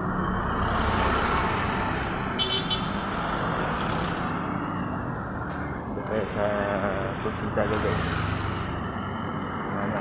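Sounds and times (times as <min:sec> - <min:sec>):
cars and motorcycles passing: 0:00.0 - 0:10.0.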